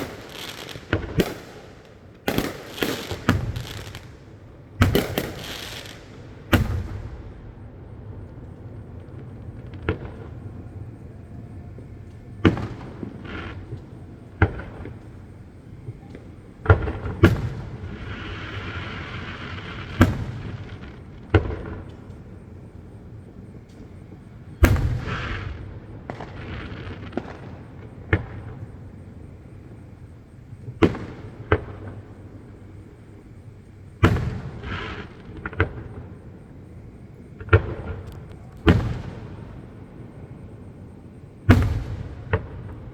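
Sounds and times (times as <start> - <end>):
fireworks booming: 0.0 - 42.9
fireworks hissing crackle: 0.0 - 42.9.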